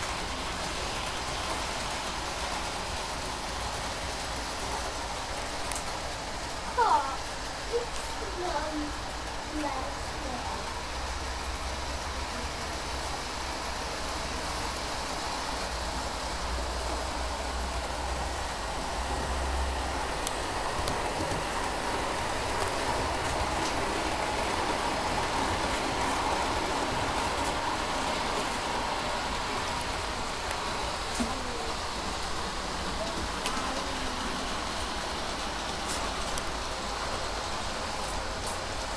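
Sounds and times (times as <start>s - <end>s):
model train running on track: 0.0s - 38.9s.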